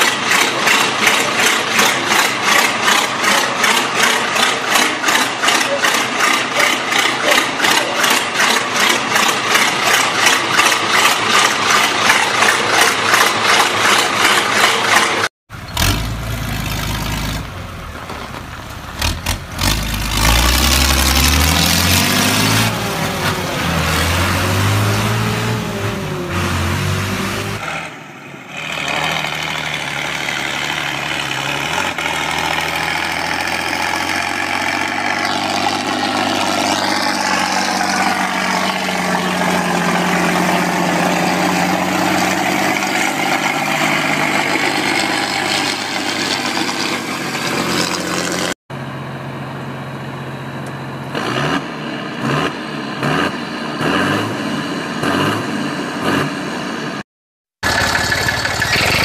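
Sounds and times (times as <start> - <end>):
tractor engine running under load: 0.0 - 23.9, 28.7 - 51.1, 57.6 - 59.0
tractor diesel engine revving: 0.0 - 57.0, 57.6 - 59.0.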